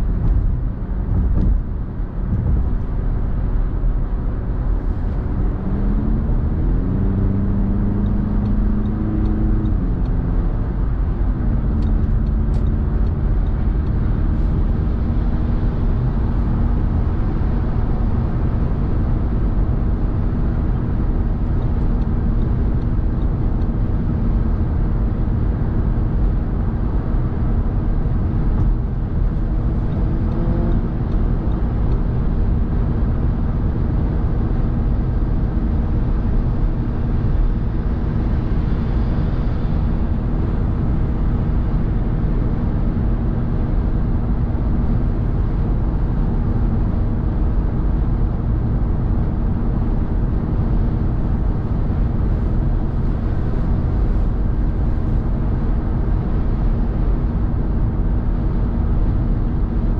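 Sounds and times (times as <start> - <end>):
car engine hum: 0.0 - 59.9
tyres rumbling on road: 0.0 - 59.9.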